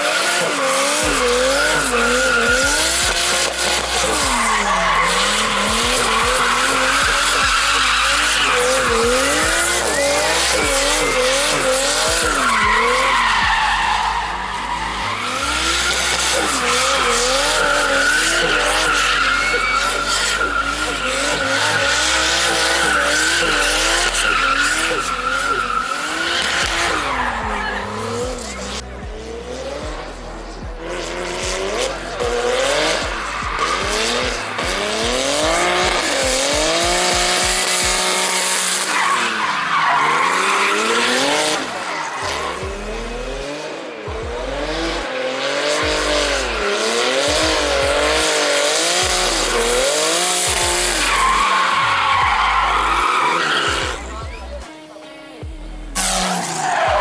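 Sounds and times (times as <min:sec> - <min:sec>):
car engine revving hard: 0:00.0 - 0:54.9, 0:55.5 - 0:57.0
tyres screeching on asphalt: 0:00.0 - 0:57.0.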